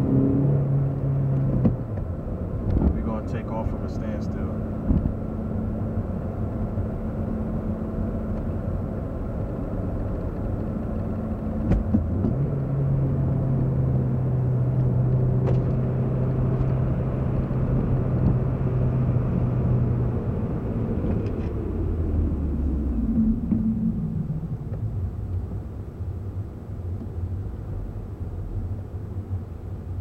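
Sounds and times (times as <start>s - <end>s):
car engine running: 0.0s - 29.9s
road and cabin rumble: 0.0s - 30.0s.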